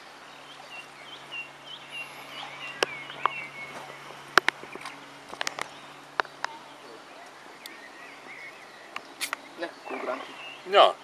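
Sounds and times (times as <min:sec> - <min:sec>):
steady low hum: 0:00.0 - 0:11.0
small bird chirping: 0:00.4 - 0:10.9.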